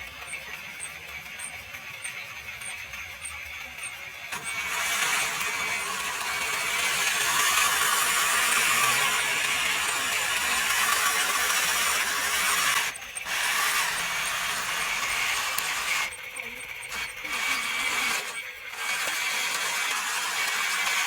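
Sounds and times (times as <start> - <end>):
electric motor whirring: 0.1 - 21.0.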